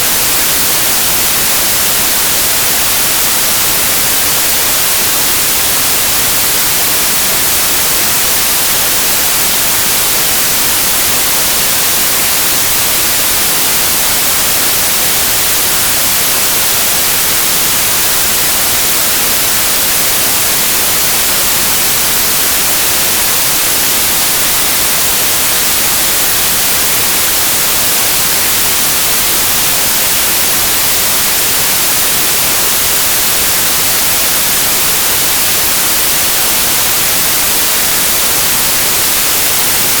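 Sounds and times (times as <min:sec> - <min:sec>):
white noise hiss: 0:00.0 - 0:40.0.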